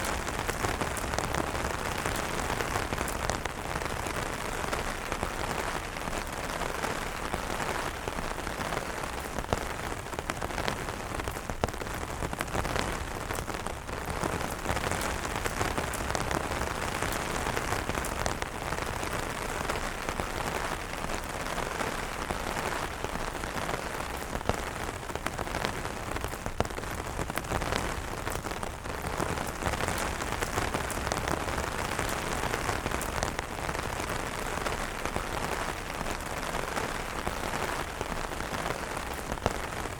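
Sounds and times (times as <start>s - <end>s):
rain falling on umbrellas: 0.0s - 39.9s.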